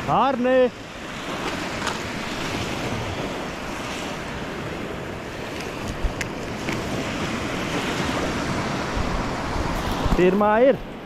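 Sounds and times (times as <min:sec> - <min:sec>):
waves washing up a beach: 0:00.0 - 0:11.0
wind on microphone: 0:00.8 - 0:11.0.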